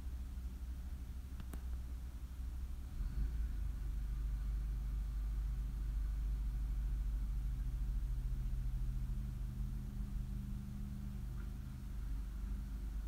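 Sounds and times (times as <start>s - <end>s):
faint steady tone: 0.0s - 13.0s
low mechanical hum: 0.0s - 13.0s.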